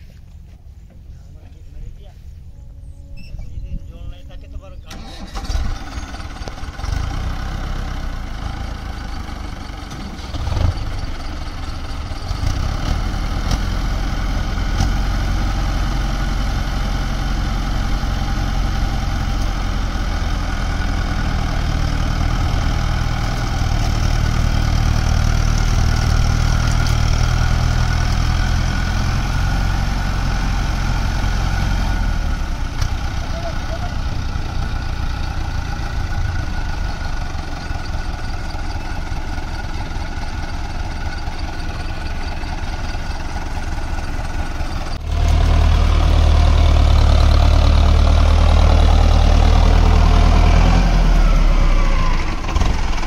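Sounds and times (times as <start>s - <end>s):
tractor diesel engines under load: 0.0s - 53.0s.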